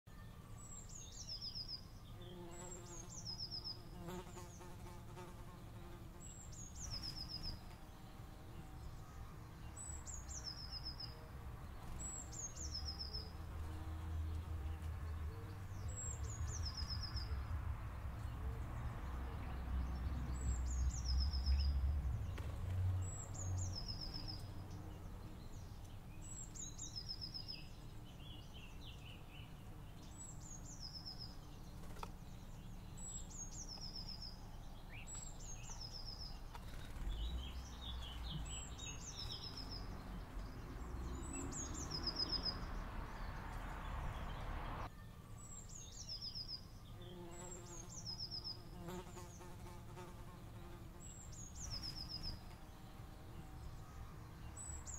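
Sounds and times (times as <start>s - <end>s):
small bird singing with trill: 0.1s - 11.2s, 19.4s - 22.4s, 23.0s - 43.3s, 44.3s - 54.9s.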